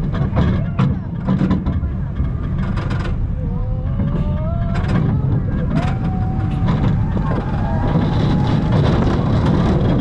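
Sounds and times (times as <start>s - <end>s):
roller coaster rumbling on track: 0.0s - 10.0s.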